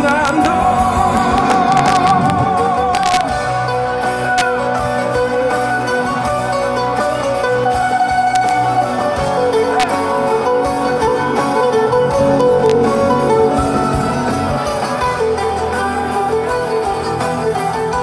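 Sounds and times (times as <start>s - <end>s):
bass guitar: 0.0s - 18.0s
drums: 0.0s - 18.0s
live band playing: 0.0s - 18.0s
plucked string lead melody: 0.0s - 18.0s.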